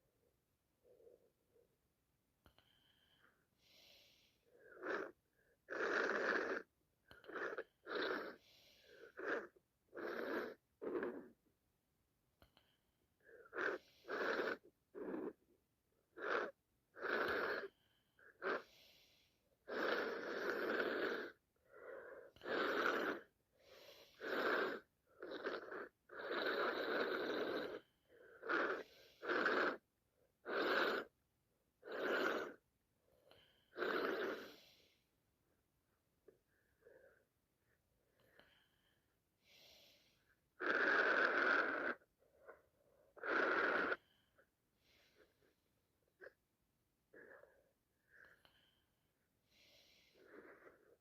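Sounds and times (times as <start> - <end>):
wheezy breathing: 2.5 - 11.4, 12.5 - 31.2, 31.8 - 35.2, 36.2 - 46.4, 47.0 - 51.0.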